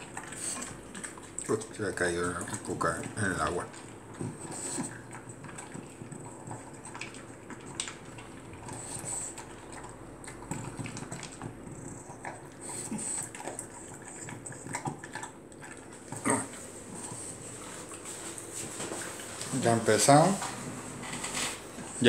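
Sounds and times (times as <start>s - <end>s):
dog crunching kibble: 0.0s - 22.0s.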